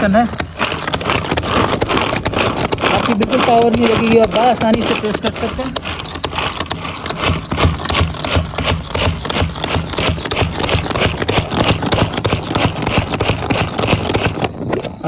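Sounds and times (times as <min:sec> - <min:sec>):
plastic food chopper clacking: 0:00.0 - 0:14.9.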